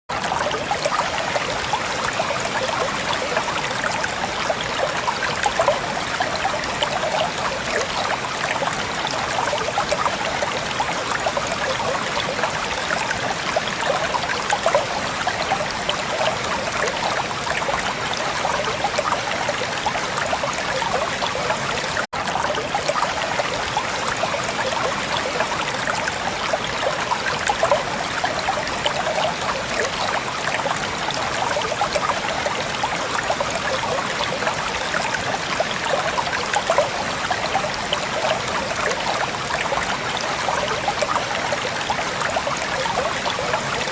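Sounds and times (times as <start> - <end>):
stream flowing over rocks: 0.1 - 43.9.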